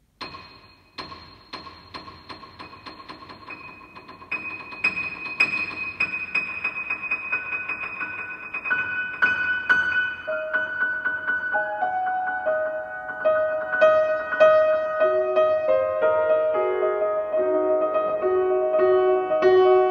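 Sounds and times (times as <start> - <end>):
piano repeated high notes: 0.0 - 19.9.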